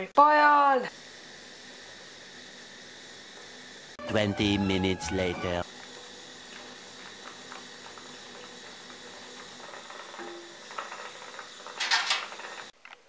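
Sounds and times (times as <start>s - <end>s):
water boiling in a pot: 0.0s - 4.0s, 5.6s - 12.8s.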